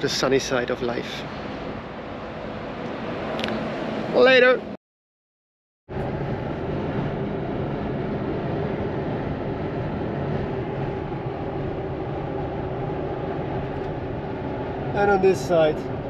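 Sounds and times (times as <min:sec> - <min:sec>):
tyre road noise: 0:00.0 - 0:04.8, 0:05.9 - 0:16.0
wind rush: 0:00.0 - 0:04.8, 0:05.9 - 0:16.0.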